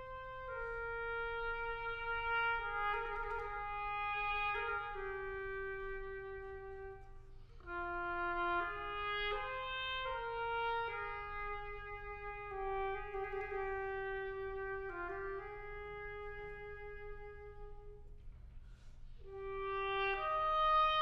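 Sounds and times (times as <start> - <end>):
oboe playing held notes: 0.0 - 18.1, 19.1 - 21.0.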